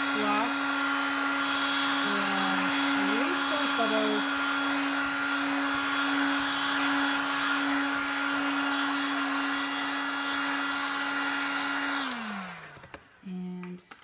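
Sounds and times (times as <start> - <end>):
heat gun blowing air: 0.0 - 13.2.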